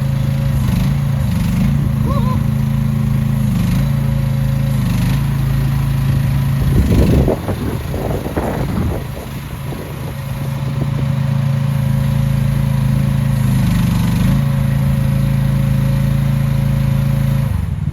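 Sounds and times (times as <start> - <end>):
excavator engine running: 0.0 - 17.9.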